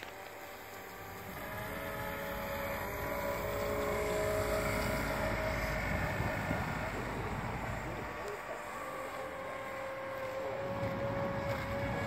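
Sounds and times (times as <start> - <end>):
electric motors and propellers whining: 0.0 - 12.0.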